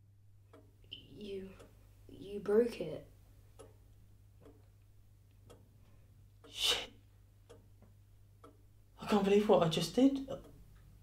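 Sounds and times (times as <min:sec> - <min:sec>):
clock ticking softly: 0:00.0 - 0:11.0.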